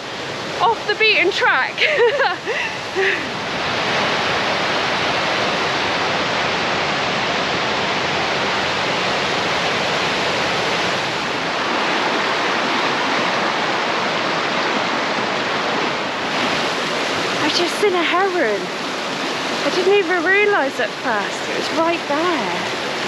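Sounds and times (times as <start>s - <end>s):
river water rushing over rocks: 0.0s - 23.0s.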